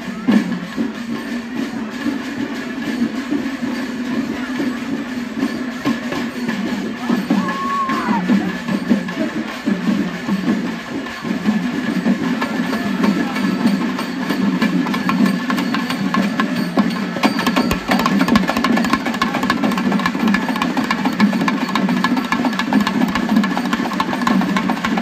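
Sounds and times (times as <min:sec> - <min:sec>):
frame drums beaten fast: 0:00.0 - 0:25.0.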